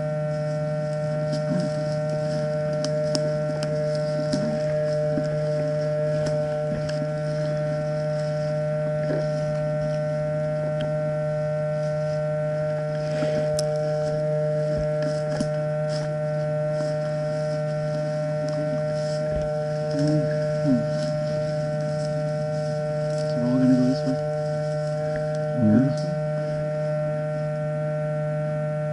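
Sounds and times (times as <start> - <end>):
steady hum of fixed tones: 0.0 - 28.9.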